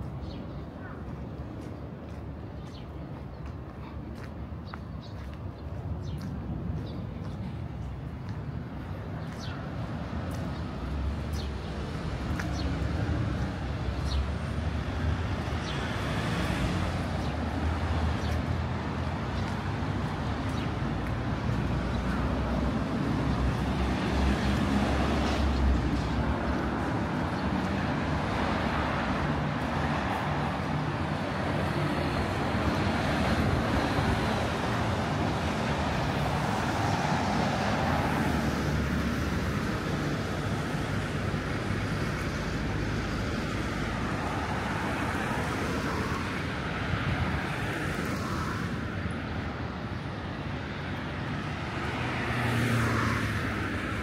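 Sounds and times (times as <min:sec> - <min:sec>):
traffic on a wet road: 0:05.3 - 0:54.0.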